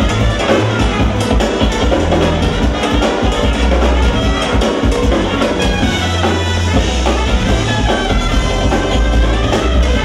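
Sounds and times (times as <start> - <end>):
drum kit: 0.0 - 10.0
electric bass: 0.0 - 10.0
electric guitar: 0.0 - 10.0
keyboards: 0.0 - 10.0.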